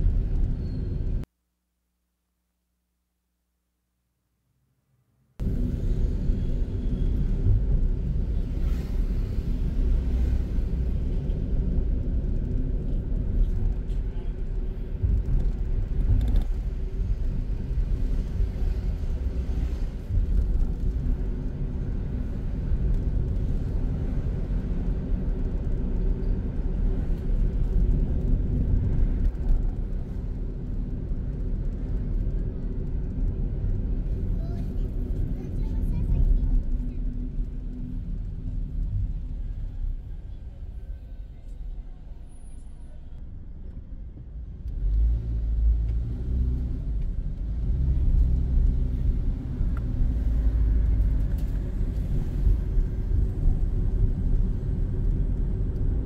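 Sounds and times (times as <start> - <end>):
engine and road noise rumble: 0.0 - 1.3, 4.9 - 56.0.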